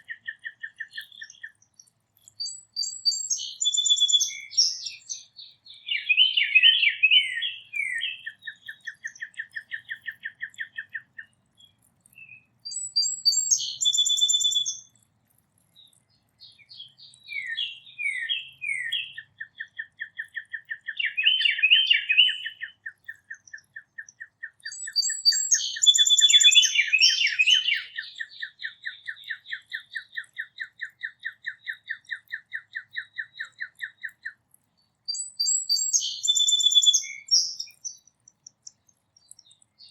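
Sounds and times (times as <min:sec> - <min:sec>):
repeated short bird notes: 0:00.0 - 0:15.0, 0:15.7 - 0:39.9
songbirds singing: 0:00.0 - 0:39.9.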